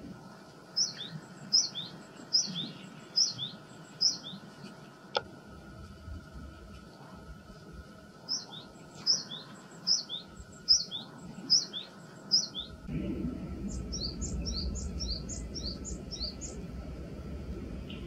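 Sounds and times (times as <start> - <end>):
low rumble background noise: 0.0 - 18.0.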